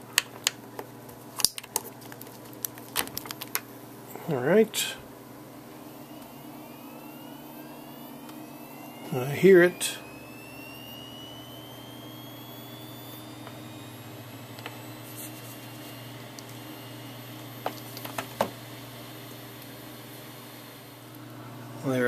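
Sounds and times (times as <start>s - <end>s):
steady low hum: 0.0s - 22.0s
hard drive whine rising: 2.6s - 22.0s.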